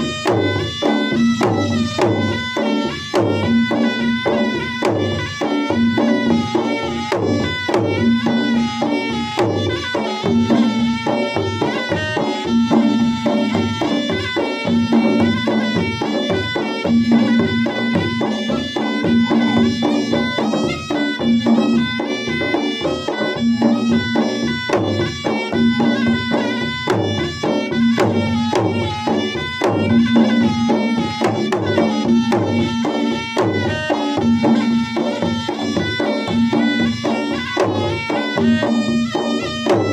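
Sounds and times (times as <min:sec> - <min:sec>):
drums beaten fast: 0:00.0 - 0:39.9
reedy wind melody: 0:00.0 - 0:39.9.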